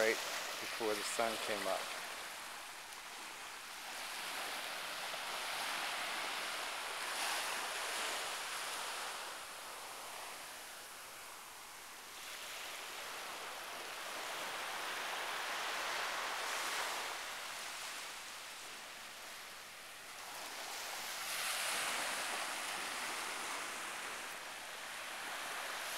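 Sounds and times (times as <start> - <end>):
surf washing onto sand: 0.0 - 25.9.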